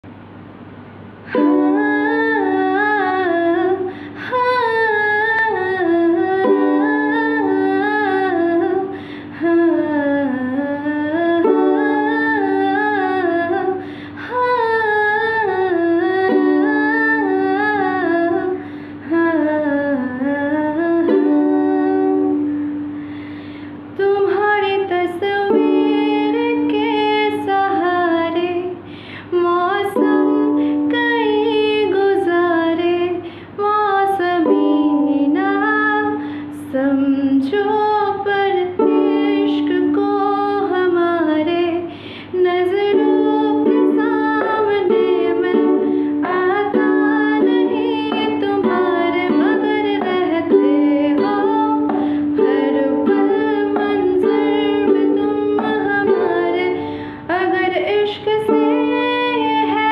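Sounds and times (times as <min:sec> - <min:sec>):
woman singing: 0:01.3 - 0:22.6, 0:23.9 - 0:59.9
ukulele strumming: 0:01.3 - 0:23.2, 0:24.0 - 0:28.7, 0:29.3 - 0:59.9.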